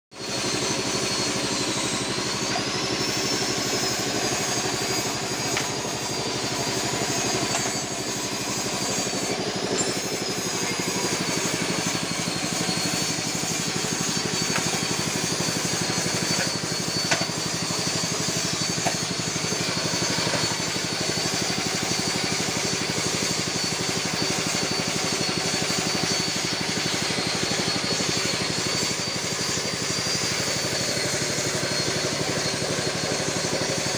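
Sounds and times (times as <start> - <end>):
diesel engine running: 0.2 - 33.9
thin wavering whine: 0.2 - 33.9.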